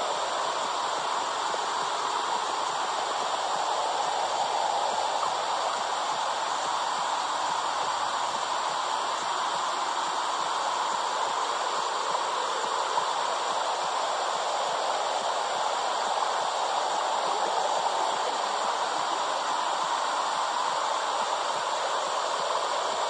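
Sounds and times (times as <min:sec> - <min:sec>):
even rushing hiss: 0:00.0 - 0:23.0.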